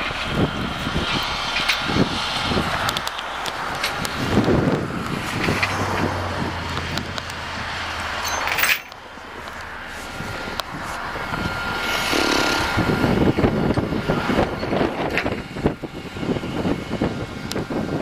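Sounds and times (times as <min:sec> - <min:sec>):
wind buffeting microphone: 0:00.0 - 0:08.2, 0:08.9 - 0:18.0
steady low hum: 0:00.0 - 0:18.0
vehicle engine running: 0:00.0 - 0:18.0.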